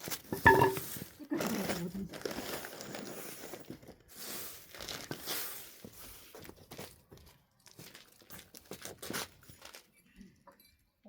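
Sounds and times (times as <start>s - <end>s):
rustling and crinkling: 0.0s - 10.2s.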